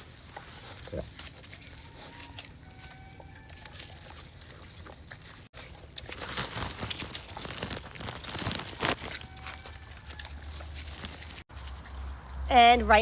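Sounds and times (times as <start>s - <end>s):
pigs chewing and crunching: 0.0s - 13.0s.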